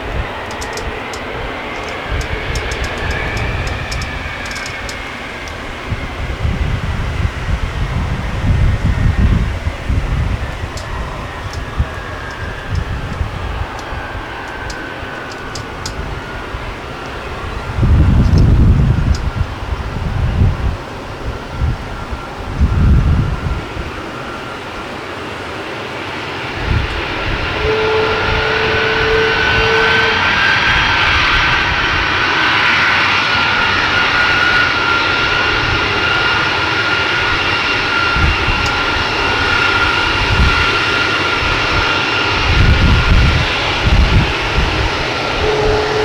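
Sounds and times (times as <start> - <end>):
jet engine roar with whine: 0.0 - 46.0
wind gusts on microphone: 0.0 - 46.0.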